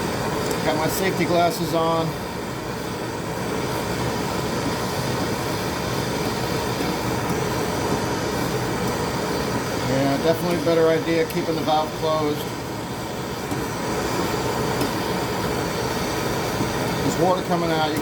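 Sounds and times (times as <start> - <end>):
fans running: 0.0 - 18.0
torch flame rushing: 0.0 - 18.0.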